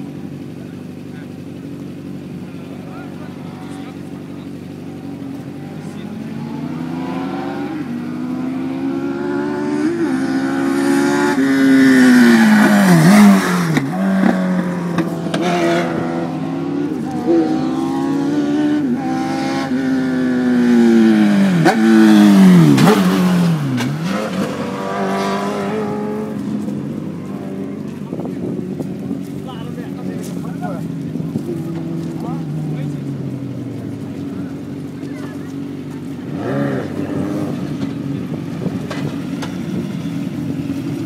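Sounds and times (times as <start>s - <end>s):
race cars passing at high revs: 1.8s - 41.0s.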